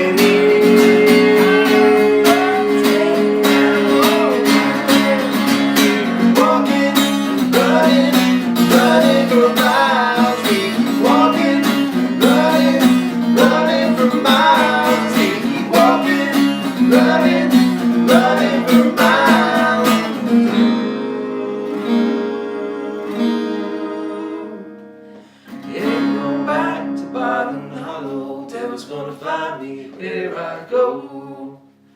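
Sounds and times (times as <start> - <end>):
sliding lead guitar melody: 0.0 - 27.4
acoustic guitars strumming: 0.0 - 30.8.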